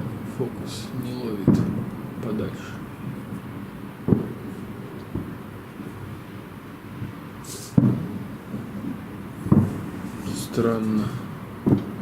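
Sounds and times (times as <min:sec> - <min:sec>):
distant fireworks booming: 0:00.0 - 0:12.0.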